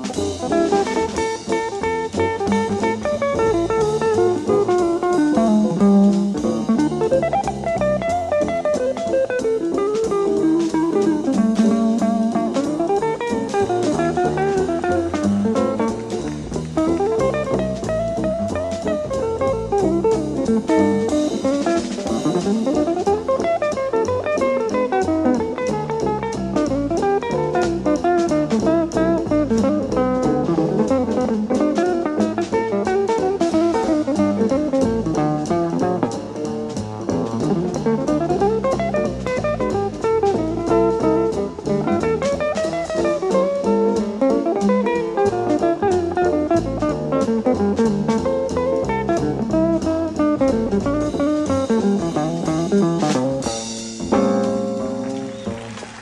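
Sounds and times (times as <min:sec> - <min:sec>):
double bass: 0:00.0 - 0:56.0
drum kit on cymbals: 0:00.0 - 0:56.0
electric guitars playing jazz: 0:00.0 - 0:56.0.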